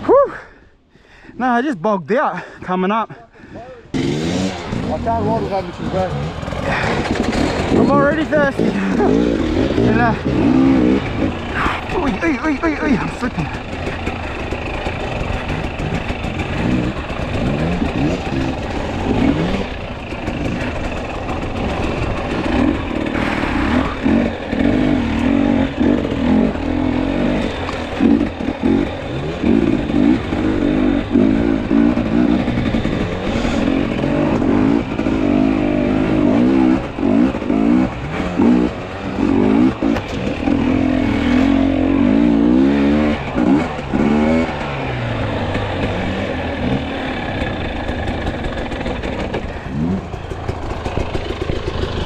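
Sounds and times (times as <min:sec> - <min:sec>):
dirt bike engine revving: 0:03.8 - 0:52.0.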